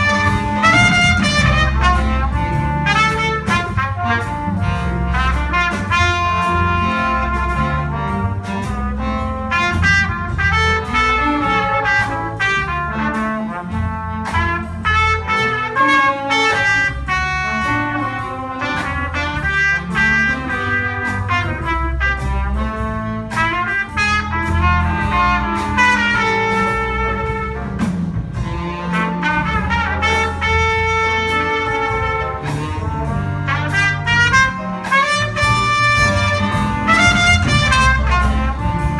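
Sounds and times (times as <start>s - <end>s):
jazz brass ensemble playing: 0.0s - 38.9s.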